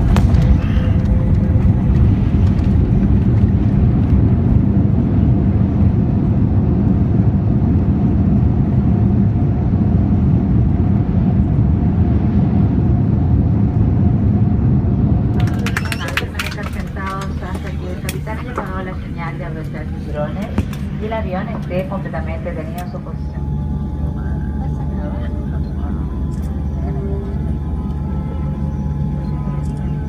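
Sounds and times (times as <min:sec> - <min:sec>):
airplane cabin rumble: 0:00.0 - 0:30.0
faint steady whine: 0:00.0 - 0:30.0.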